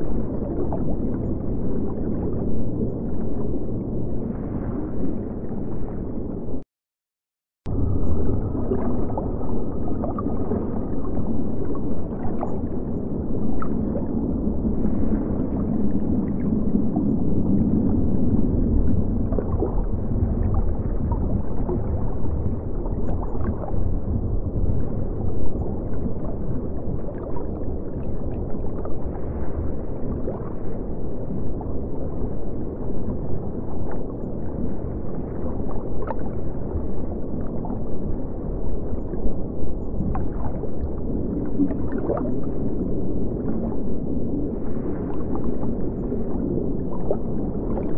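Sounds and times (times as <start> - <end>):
bubbling gurgles: 0.0 - 5.5, 7.7 - 47.9
low rumble of moving water: 0.0 - 6.7, 7.6 - 47.9.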